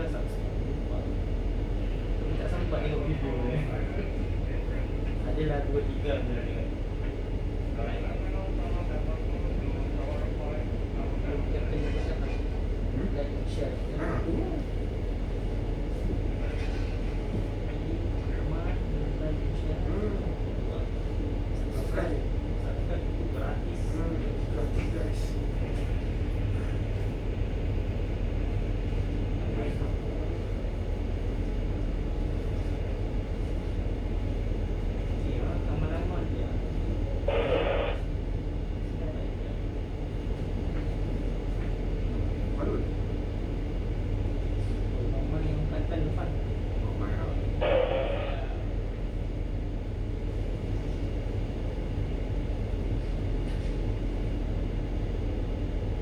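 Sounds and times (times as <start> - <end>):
ship engine rumbling: 0.0 - 56.0.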